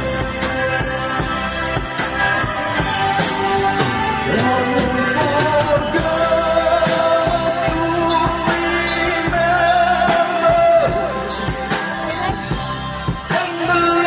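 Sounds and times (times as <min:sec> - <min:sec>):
drums: 0:00.0 - 0:14.0
electric guitar: 0:00.0 - 0:14.0
keyboard: 0:00.0 - 0:14.0
person singing: 0:00.0 - 0:14.0.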